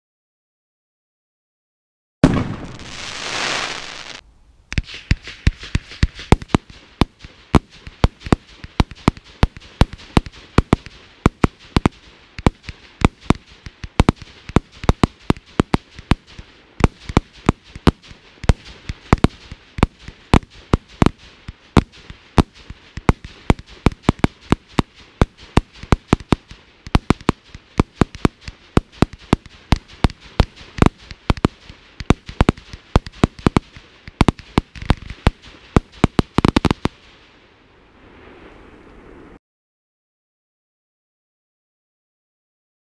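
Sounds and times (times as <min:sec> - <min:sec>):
firework hissing burst: 0:02.2 - 0:04.2, 0:04.8 - 0:39.4
firework cracking shots: 0:02.2 - 0:37.3.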